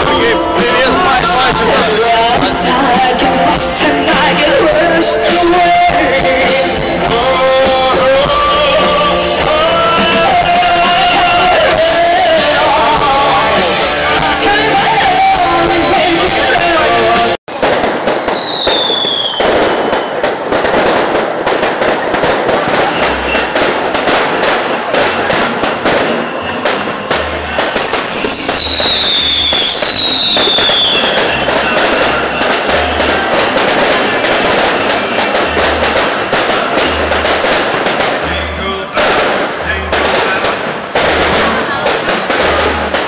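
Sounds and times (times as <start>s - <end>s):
fireworks crackling and booming: 0.0s - 43.0s
whistling fireworks: 0.0s - 43.0s.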